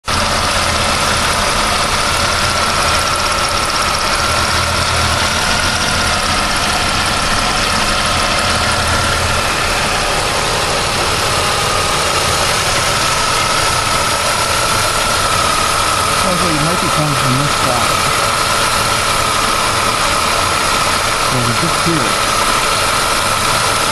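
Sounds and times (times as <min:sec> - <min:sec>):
car engine idling: 0:00.0 - 0:23.9
high whine: 0:00.2 - 0:23.9.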